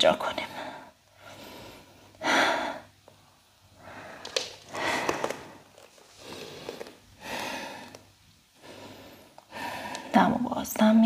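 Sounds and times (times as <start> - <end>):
person breathing heavily: 0.5 - 3.0, 3.7 - 10.2.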